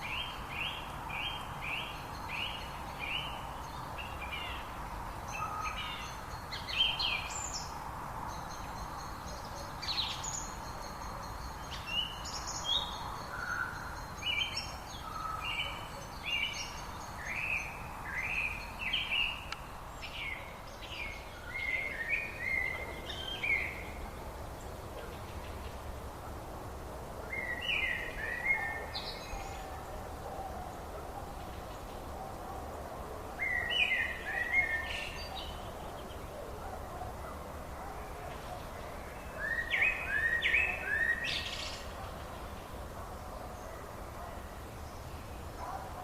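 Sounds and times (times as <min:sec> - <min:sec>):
background hiss: 0:00.0 - 0:46.0.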